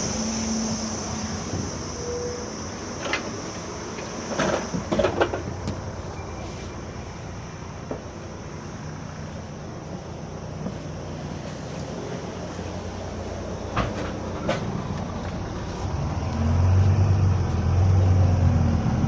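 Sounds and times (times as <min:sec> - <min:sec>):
bus engine humming: 0:00.0 - 0:19.0
engine knocks and rattles: 0:00.0 - 0:19.0
high whine: 0:00.0 - 0:19.0.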